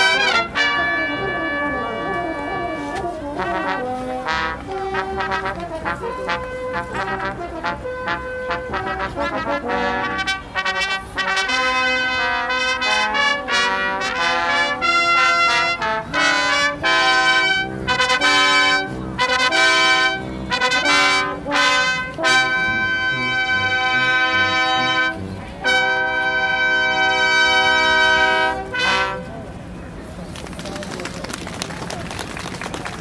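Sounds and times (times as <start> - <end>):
brass ensemble playing chords: 0.0 - 29.6.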